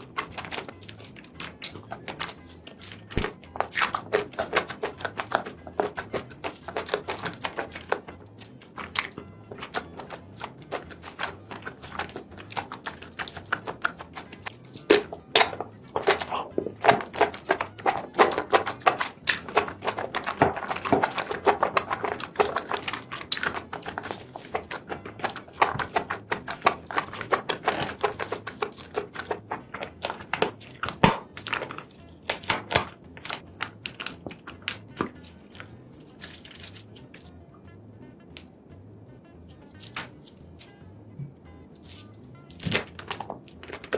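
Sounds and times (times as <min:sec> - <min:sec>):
chewing with wet clicks: 0:00.0 - 0:38.5, 0:41.5 - 0:43.9.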